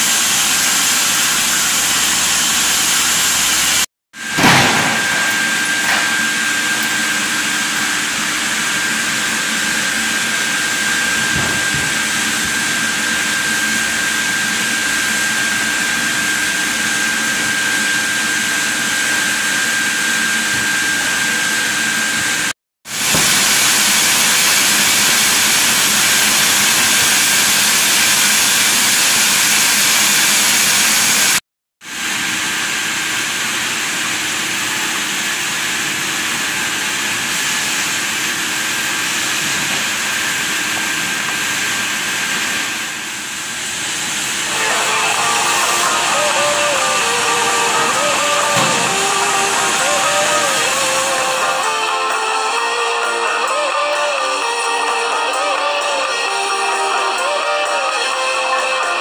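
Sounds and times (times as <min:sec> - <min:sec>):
sawmill machinery hissing and whining: 0:00.0 - 0:59.0.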